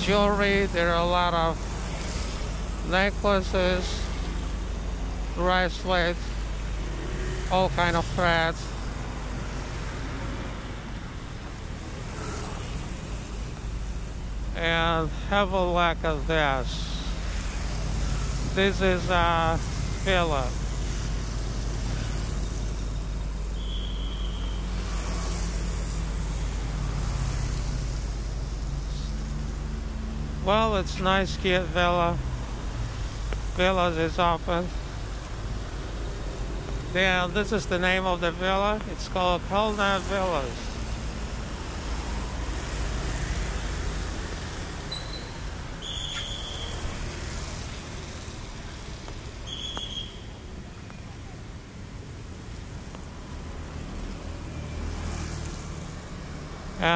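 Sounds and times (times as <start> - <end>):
traffic rumble with tyre hiss: 0.0 - 56.9.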